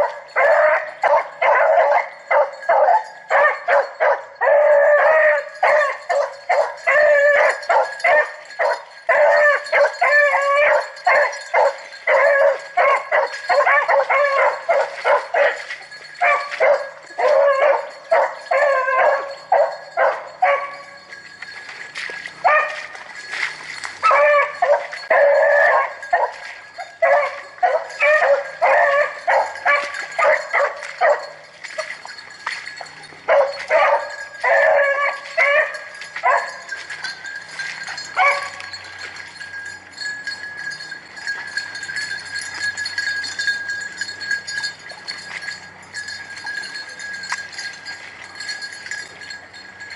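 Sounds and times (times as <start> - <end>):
hounds baying: 0.0 - 49.9.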